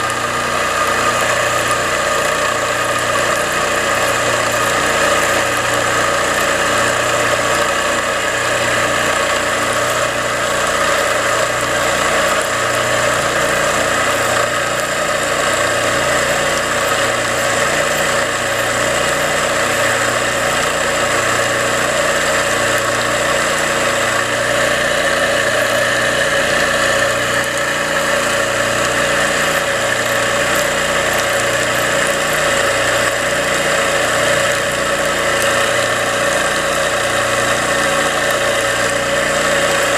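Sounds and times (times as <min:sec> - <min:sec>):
electric pump humming: 0:00.0 - 0:39.9.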